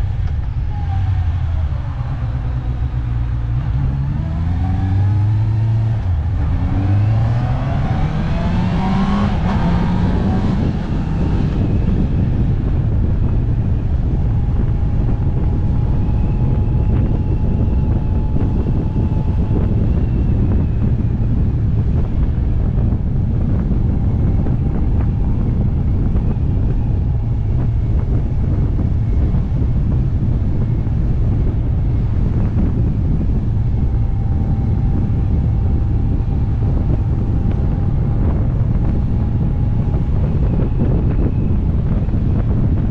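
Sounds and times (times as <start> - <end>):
motorcycle engine: 0.0 - 42.9
wind buffeting microphone: 0.0 - 42.9.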